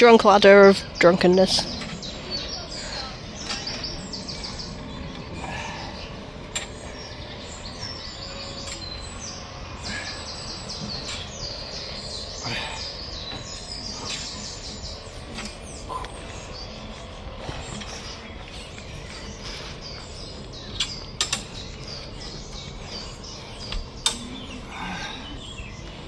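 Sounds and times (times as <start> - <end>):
birds chirping and singing: 0.0 - 26.0
outdoor background noise: 0.0 - 26.0.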